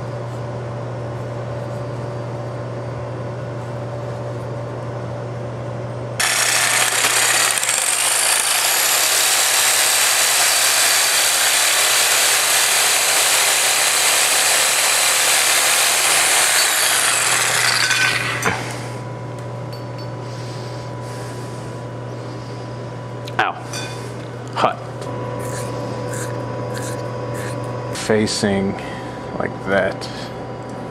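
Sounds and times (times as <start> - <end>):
low electrical hum: 0.0 - 14.1, 15.5 - 30.9.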